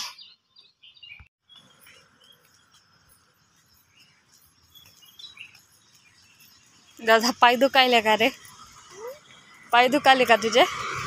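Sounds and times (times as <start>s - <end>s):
bird chirps: 0.0s - 9.9s.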